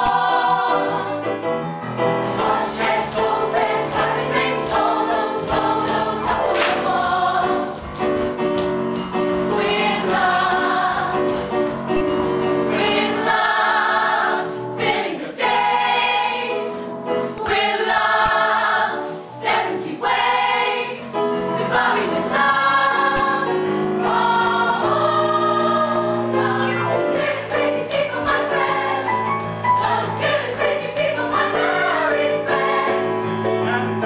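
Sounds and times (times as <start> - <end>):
cast singing together: 0.0 - 1.4, 2.3 - 7.8, 9.5 - 11.3, 12.7 - 33.3
keyboard accompaniment: 0.0 - 34.0.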